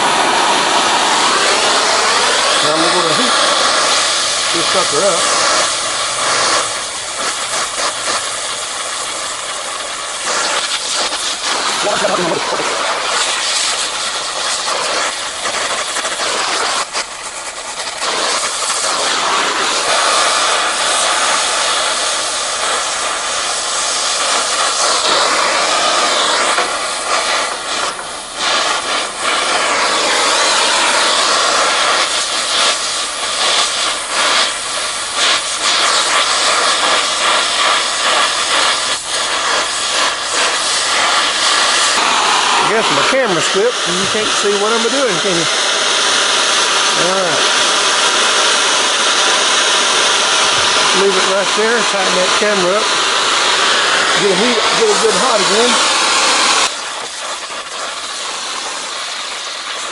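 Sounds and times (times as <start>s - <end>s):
gas torch flame hissing: 0.0s - 59.9s.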